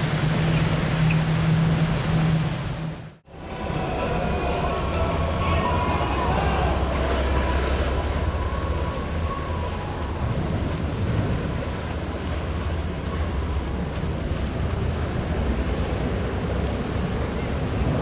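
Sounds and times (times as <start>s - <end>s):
water rushing past boat: 0.0s - 18.0s
wind buffeting microphone: 0.0s - 18.0s.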